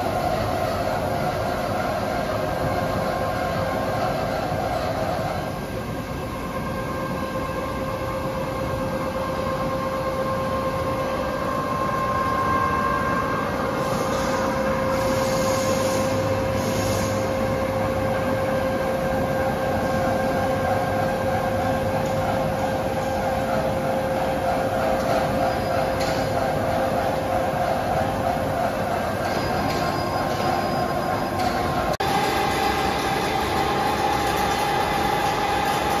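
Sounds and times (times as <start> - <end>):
factory machinery humming: 0.0 - 36.0.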